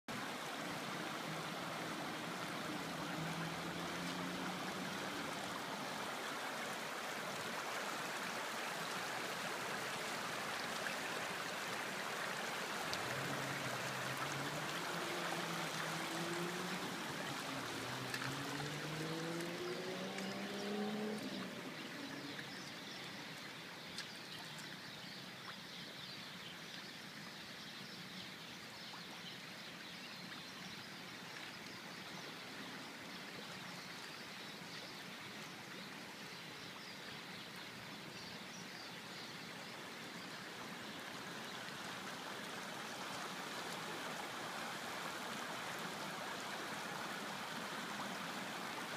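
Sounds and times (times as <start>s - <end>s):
running water: 0.1s - 27.3s, 28.0s - 48.9s.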